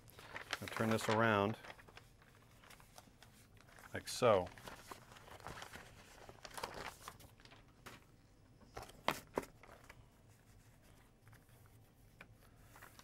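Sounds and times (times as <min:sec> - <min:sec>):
paper rustling: 0:00.0 - 0:08.1, 0:08.7 - 0:13.0.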